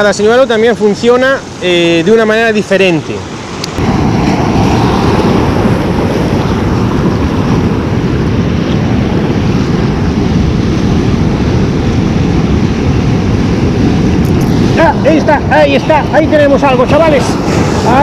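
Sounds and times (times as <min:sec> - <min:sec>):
surf breaking over rocks: 0:00.0 - 0:18.0
wind buffeting microphone: 0:00.0 - 0:18.0.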